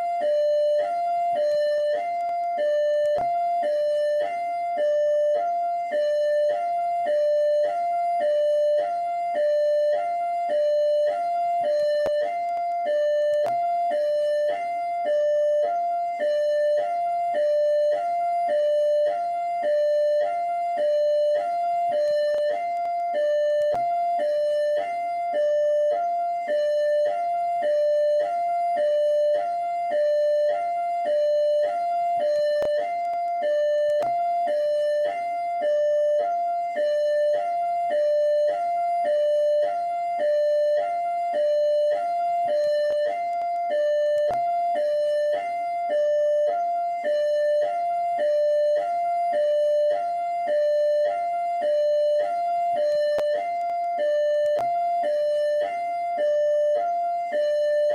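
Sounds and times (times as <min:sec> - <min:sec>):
police siren hi-lo: 0:00.0 - 0:57.9.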